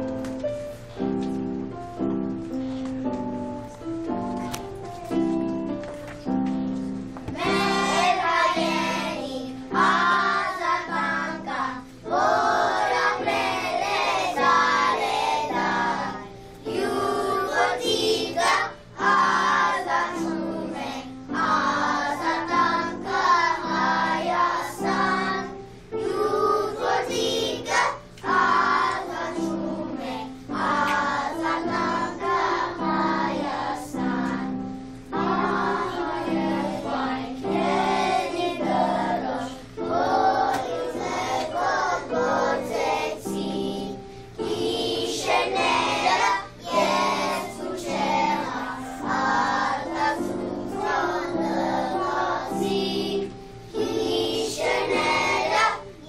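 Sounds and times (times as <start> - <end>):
instrumental accompaniment: 0.0 - 56.0
children singing: 7.3 - 56.0.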